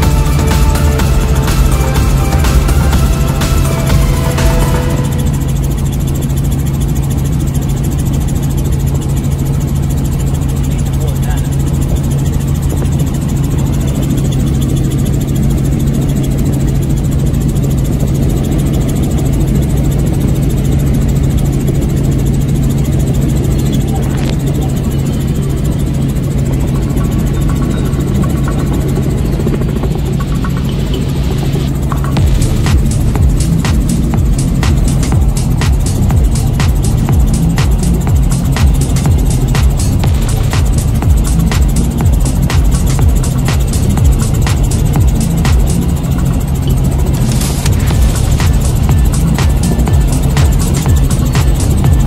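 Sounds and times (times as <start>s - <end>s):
helicopter engine and rotor hum: 0.0s - 52.0s.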